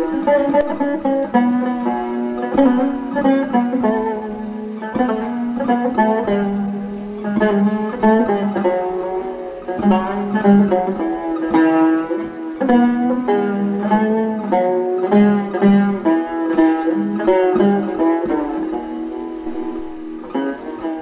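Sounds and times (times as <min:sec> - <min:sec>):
plucked long-necked lute: 0:00.0 - 0:21.0.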